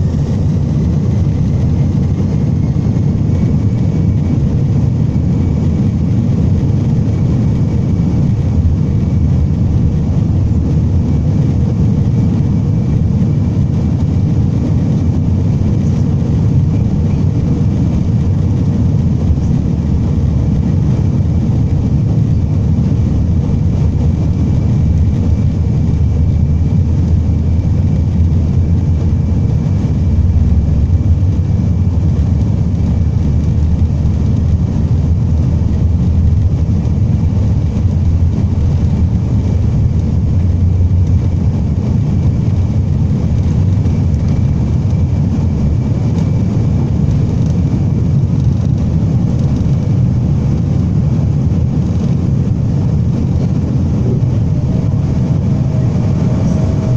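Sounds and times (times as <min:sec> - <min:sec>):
faint steady whine: 0:00.0 - 0:56.9
jet engine and airflow rumble: 0:00.0 - 0:56.9.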